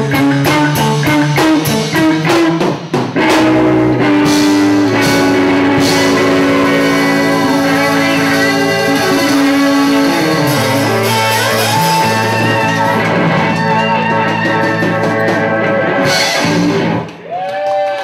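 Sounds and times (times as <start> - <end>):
blues band playing: 0.0 - 17.4
drum kit: 0.0 - 17.8
electric guitar: 0.0 - 18.0.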